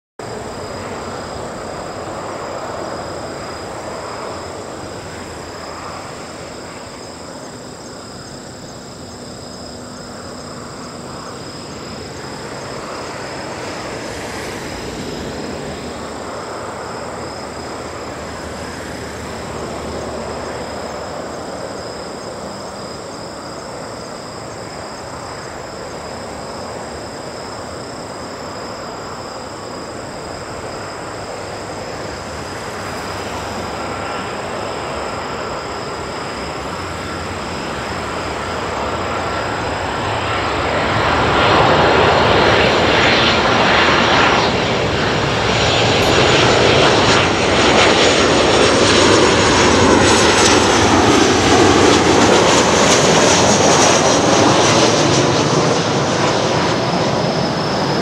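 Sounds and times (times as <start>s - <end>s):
jet engine rumble with fan whine: 0.2s - 58.0s.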